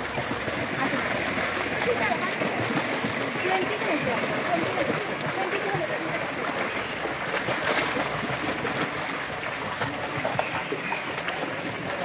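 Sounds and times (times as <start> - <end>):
swimmer splashing in pool: 0.0 - 12.0.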